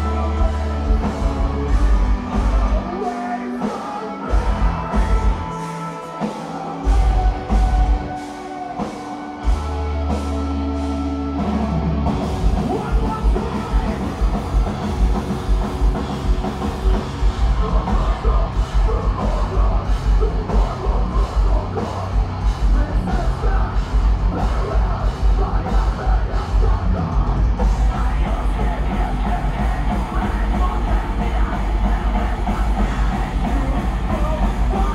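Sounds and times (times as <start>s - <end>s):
distorted guitars: 0.0s - 34.9s
metal band playing live: 0.0s - 34.9s.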